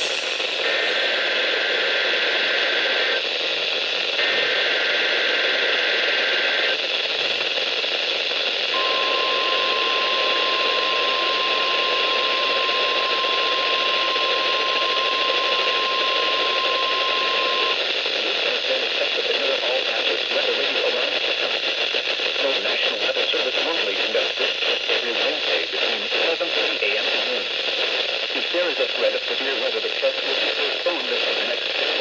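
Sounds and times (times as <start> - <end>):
radio static hiss: 0.0 - 32.0.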